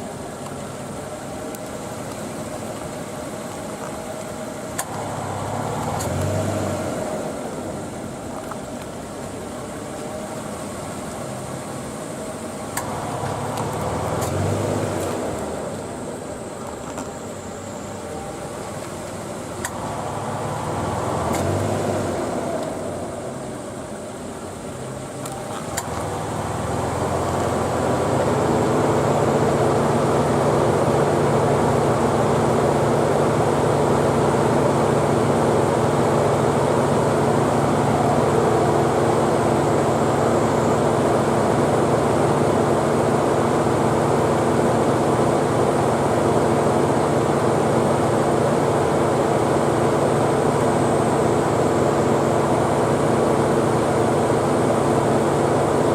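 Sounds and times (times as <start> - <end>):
air conditioning mechanical hum: 0.0 - 55.9.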